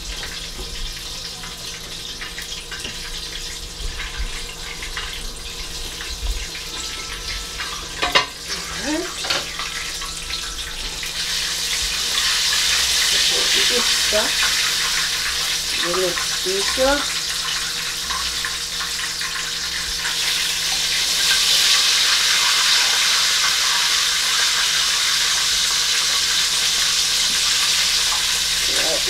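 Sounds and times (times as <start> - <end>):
chicken deep-frying in oil: 0.0 - 29.0.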